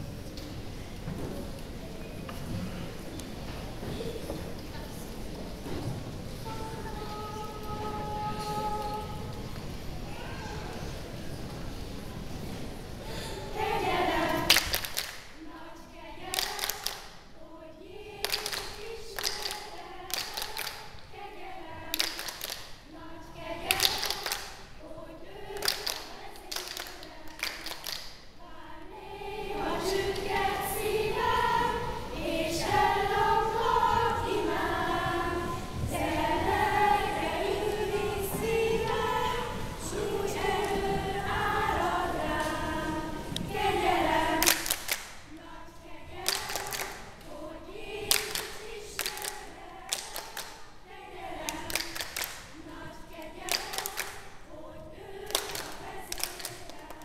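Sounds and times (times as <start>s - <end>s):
choir singing: 6.4s - 11.4s, 13.0s - 57.0s.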